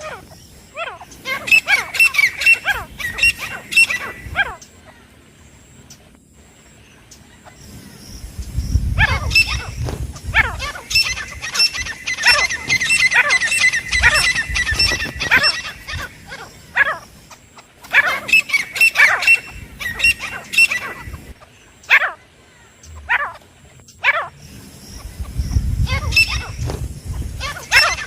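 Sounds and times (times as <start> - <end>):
francolin calling: 0.0 - 28.0.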